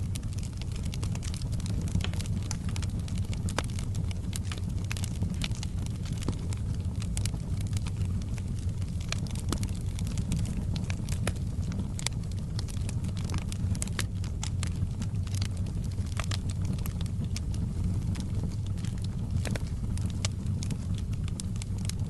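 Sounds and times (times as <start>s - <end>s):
burning wood crackling and popping: 0.0s - 22.0s
flame low rumble: 0.0s - 22.0s.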